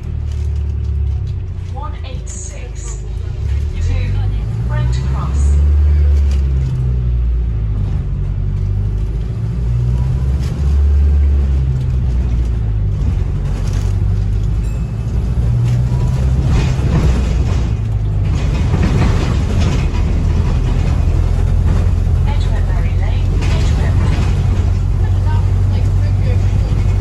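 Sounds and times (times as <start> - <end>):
bus engine rumble from inside: 0.0 - 27.0.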